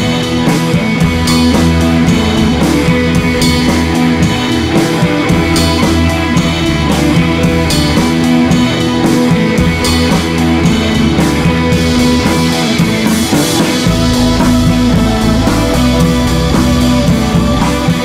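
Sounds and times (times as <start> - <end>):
guitar: 0.0 - 18.0
steady drum beat: 0.0 - 18.0.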